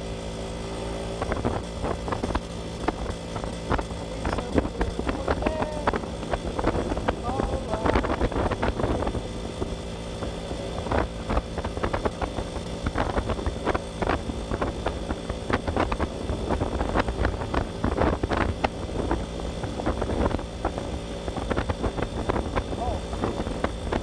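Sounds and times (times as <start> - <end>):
motorcycle engine cruising: 0.0 - 24.0
wind buffeting microphone: 1.0 - 24.0.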